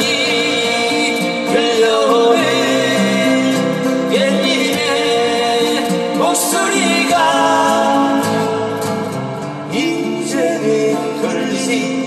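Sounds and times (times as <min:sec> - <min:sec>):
acoustic guitars playing: 0:00.0 - 0:12.0
man singing: 0:00.0 - 0:12.0.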